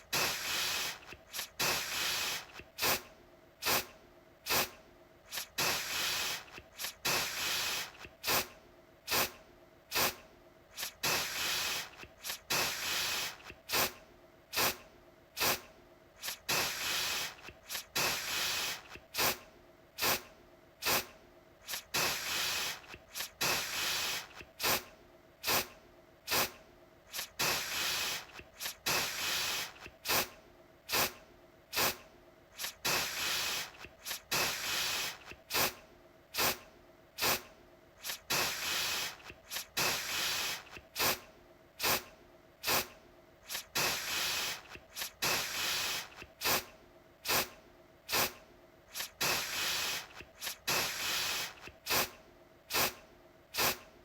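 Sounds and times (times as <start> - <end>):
aerosol can spraying: 0.0 - 8.5, 9.1 - 14.8, 15.4 - 19.4, 20.0 - 25.7, 26.3 - 32.0, 32.6 - 35.8, 36.4 - 36.6, 37.2 - 41.2, 41.8 - 53.9.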